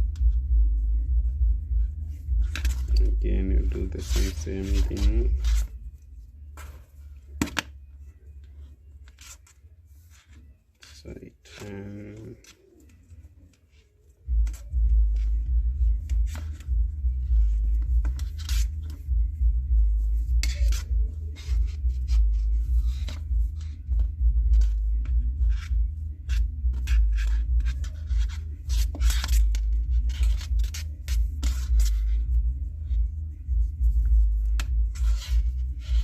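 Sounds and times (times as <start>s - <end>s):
cord scraping through fingers: 1.7s - 7.4s, 8.5s - 36.0s.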